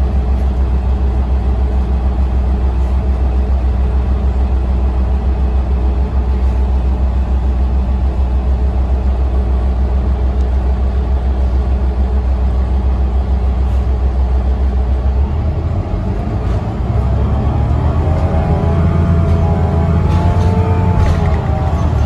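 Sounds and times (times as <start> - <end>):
bus diesel engine drone: 0.0 - 22.0
road and tyre noise: 0.0 - 22.0.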